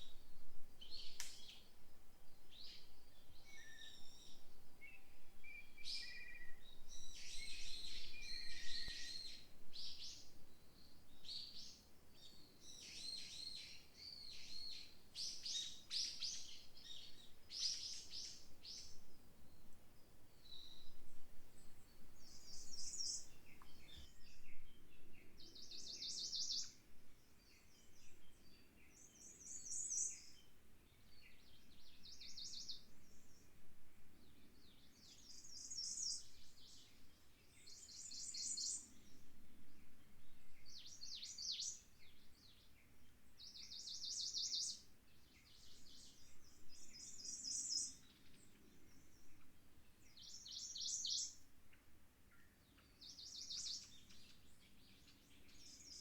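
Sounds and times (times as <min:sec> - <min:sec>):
faint wind: 0:00.0 - 0:56.0.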